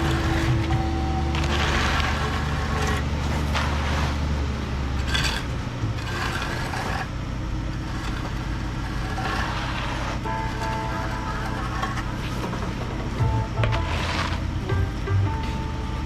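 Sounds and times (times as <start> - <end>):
tools scraping wet concrete: 0.0 - 14.9
pump engine running: 0.0 - 16.0.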